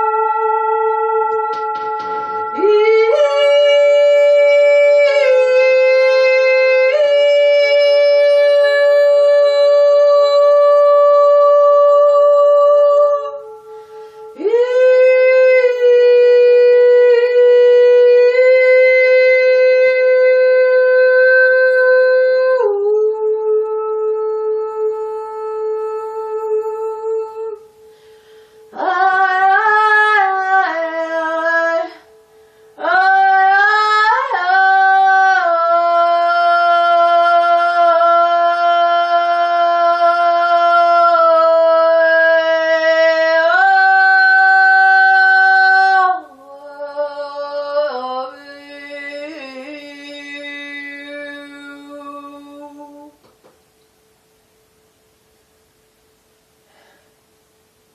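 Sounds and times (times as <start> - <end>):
woman singing sustained tones: 0.0 - 53.4
faint steady ringing tone: 0.0 - 57.9.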